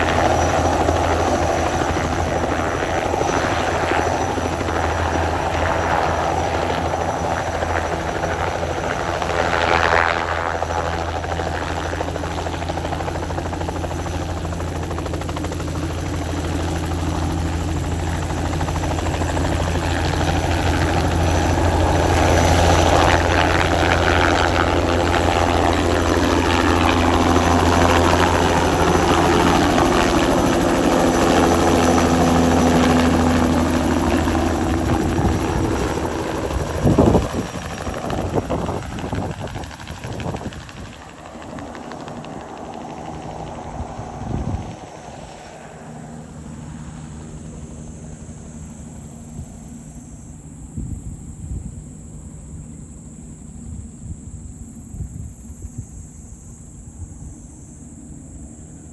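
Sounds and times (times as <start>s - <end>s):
helicopter rotor and turbine: 0.0s - 58.9s.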